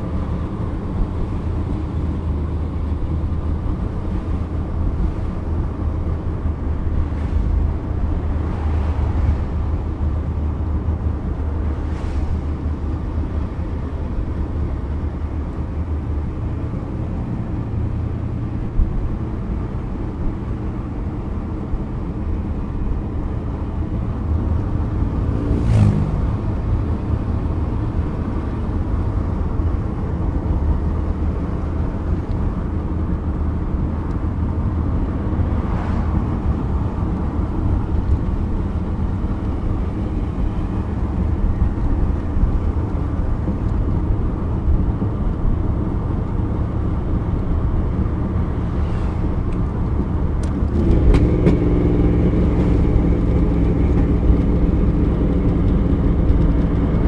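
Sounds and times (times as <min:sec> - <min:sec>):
car engine drone from cabin: 0:00.0 - 0:57.0.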